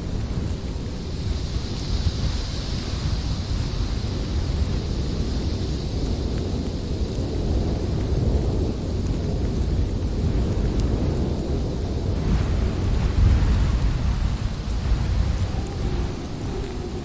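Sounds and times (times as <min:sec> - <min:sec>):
snowstorm wind blowing: 0:00.0 - 0:17.0.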